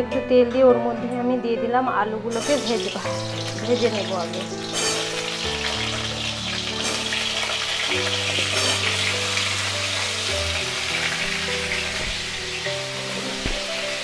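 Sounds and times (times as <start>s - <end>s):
soft background music: 0.0s - 14.0s
potatoes sizzling in oil: 2.3s - 14.0s.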